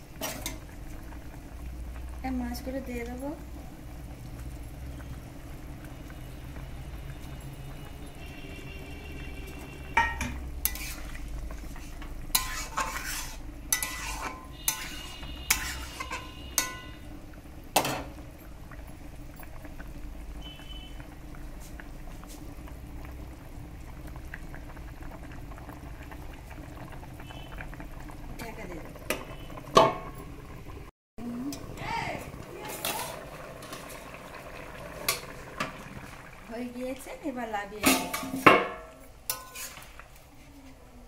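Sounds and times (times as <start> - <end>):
curry simmering in a pan: 0.0 - 41.0.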